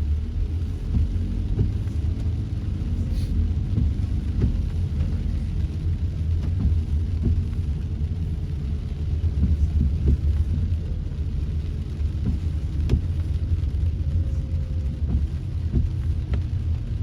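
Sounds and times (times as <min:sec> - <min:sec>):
engine and road rumble: 0:00.0 - 0:17.0
light rain taps: 0:00.0 - 0:17.0.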